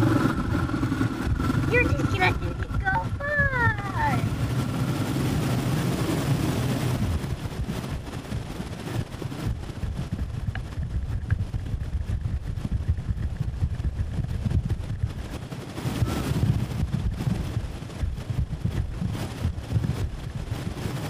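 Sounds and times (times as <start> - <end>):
rushing air and water: 0.0 - 21.0
wind buffeting microphone: 0.0 - 21.0.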